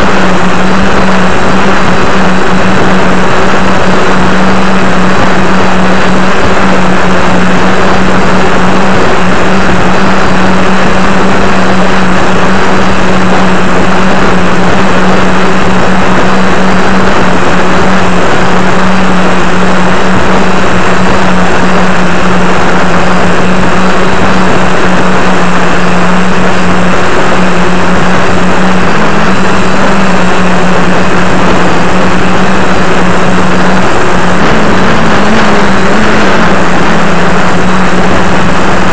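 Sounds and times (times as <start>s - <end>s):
drone motors and propellers: 0.0s - 38.9s
wind rushing over microphone: 0.0s - 38.9s.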